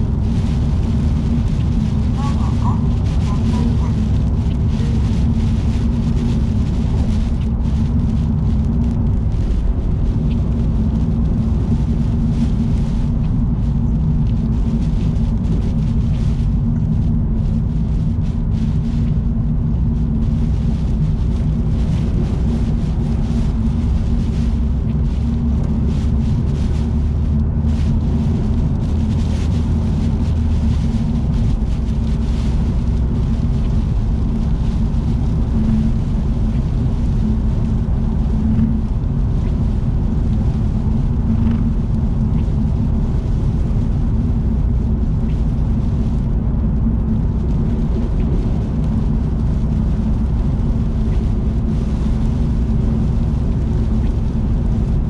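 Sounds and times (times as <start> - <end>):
car road noise drone: 0.0 - 55.0.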